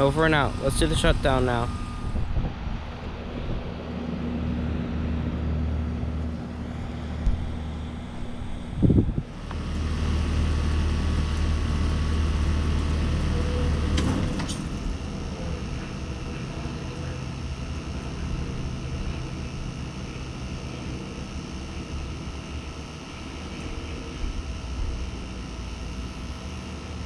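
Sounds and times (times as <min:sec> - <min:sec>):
air conditioner condenser humming: 0:00.0 - 0:27.0
other condensers humming: 0:00.0 - 0:27.0.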